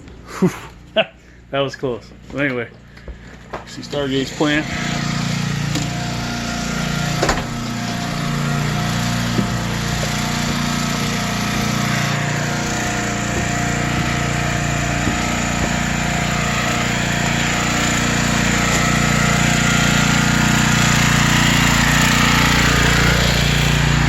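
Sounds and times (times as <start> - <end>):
portable generator engine running: 3.1 - 24.0.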